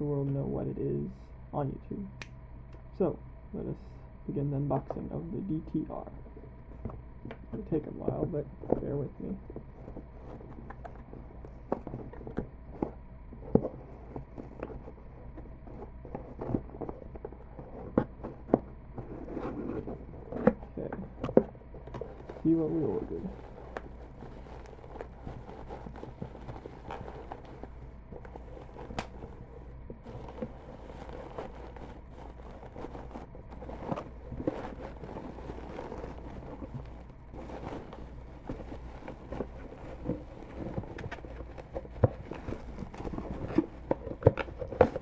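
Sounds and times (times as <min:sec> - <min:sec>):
steady low hum: 0:00.0 - 0:45.0
packaging rustling and tearing: 0:07.6 - 0:45.0.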